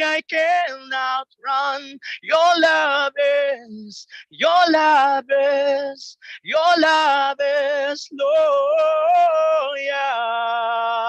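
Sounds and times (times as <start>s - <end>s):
person singing with vibrato: 0.0s - 11.0s.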